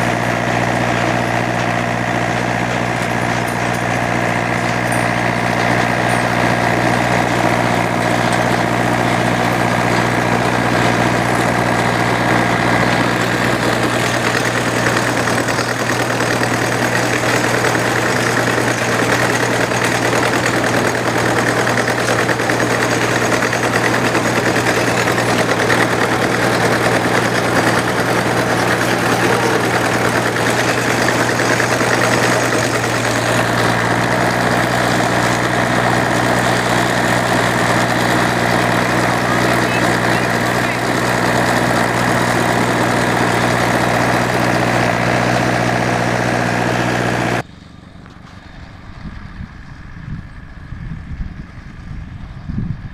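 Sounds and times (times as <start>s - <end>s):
rattling machinery: 0.0s - 52.1s
engine running steadily: 0.0s - 52.9s.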